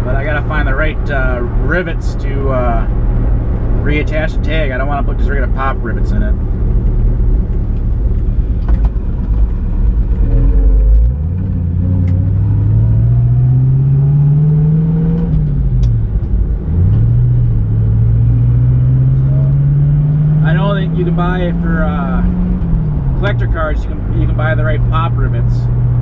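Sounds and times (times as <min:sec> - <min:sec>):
car engine accelerating: 0:00.0 - 0:26.0
road rumble: 0:00.0 - 0:26.0.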